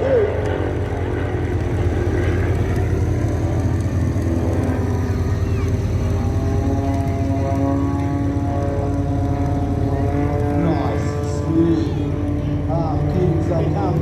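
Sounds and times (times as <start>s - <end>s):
clearer engine note: 0.0s - 14.0s
propeller aircraft engines droning: 0.0s - 14.0s.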